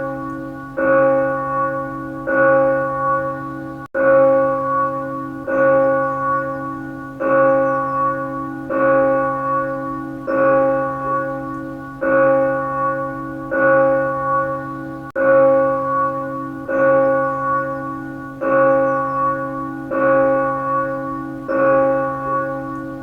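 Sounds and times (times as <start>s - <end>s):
church bell tolling: 0.0s - 23.0s.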